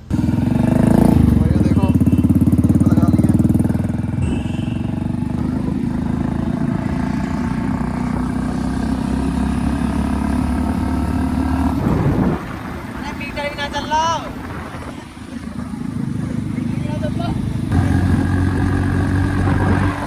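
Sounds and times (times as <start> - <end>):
motorcycle exhaust pulsing: 0.0 - 13.0, 14.5 - 20.0.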